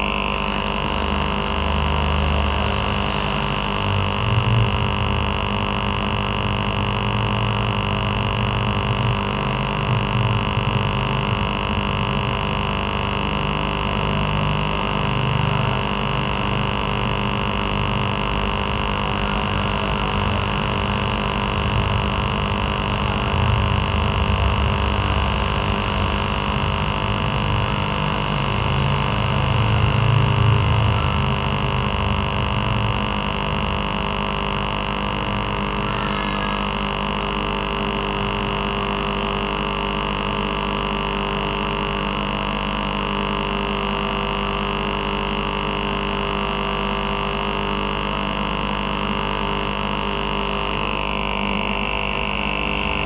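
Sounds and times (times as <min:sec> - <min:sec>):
aquarium air pump buzzing: 0:00.0 - 0:53.0.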